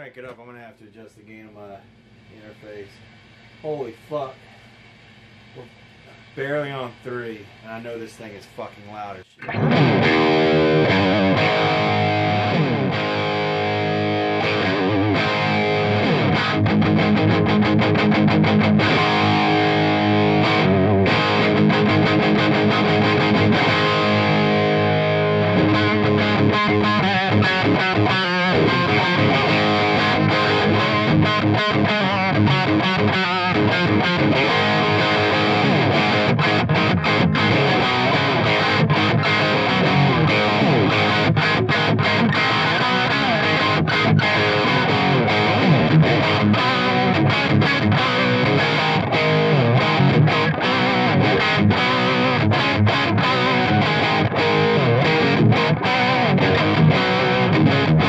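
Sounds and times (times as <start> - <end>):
distorted electric guitar riffs: 8.9 - 58.0.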